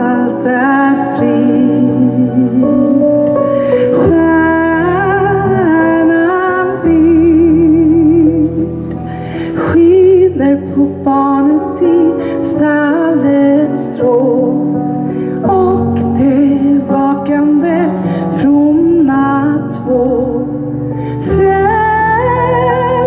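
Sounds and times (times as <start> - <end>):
instrumental accompaniment: 0.0 - 23.0
woman singing into microphone: 0.0 - 23.0.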